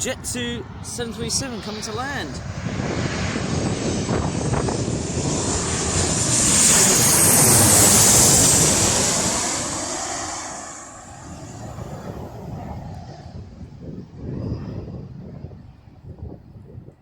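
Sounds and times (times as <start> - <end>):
jet engine roar: 0.0 - 17.0
wind buffeting microphone: 0.0 - 17.0.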